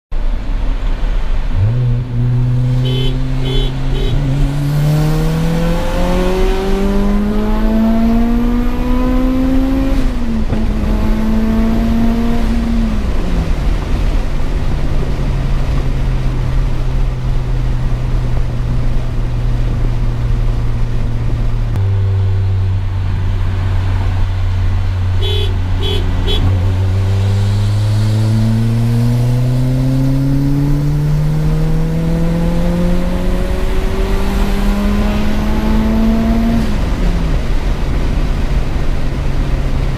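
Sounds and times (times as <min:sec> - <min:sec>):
car engine pulling hard: 0:00.8 - 0:39.9.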